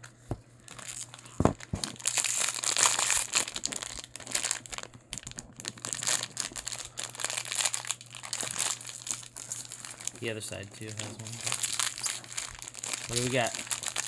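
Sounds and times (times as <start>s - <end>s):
foil wrapper crinkling and tearing: 0.6s - 14.0s.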